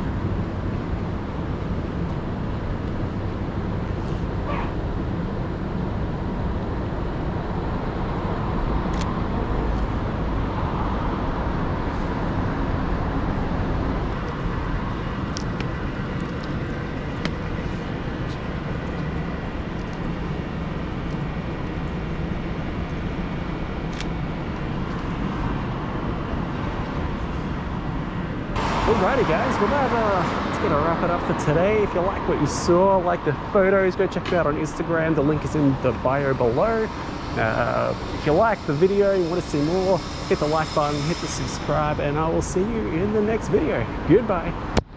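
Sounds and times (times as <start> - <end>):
city street traffic: 0.0 - 44.9.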